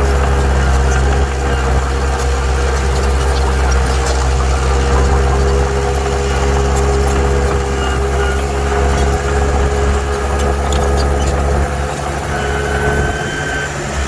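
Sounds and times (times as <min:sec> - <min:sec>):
heavy diesel machinery hum: 0:00.0 - 0:14.0.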